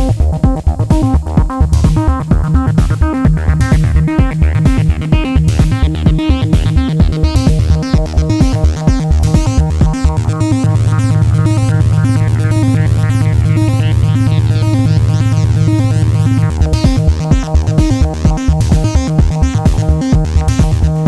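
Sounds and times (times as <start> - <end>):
drum machine beat: 0.0 - 21.0
low synth bass note: 0.0 - 21.0
synthesizer sequence: 0.0 - 21.0.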